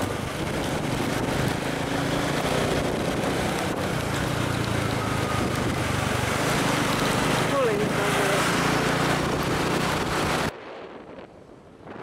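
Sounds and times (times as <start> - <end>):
motorcycle engine running: 0.0 - 10.5
wind over microphone: 0.0 - 12.0.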